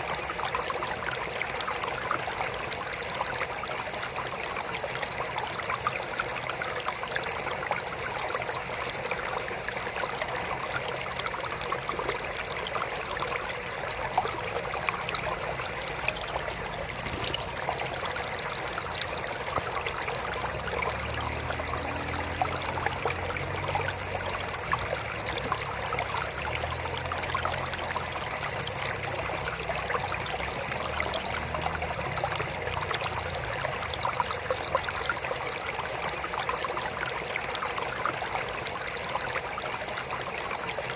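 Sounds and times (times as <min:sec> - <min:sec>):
water trickling into aquarium: 0:00.0 - 0:40.9.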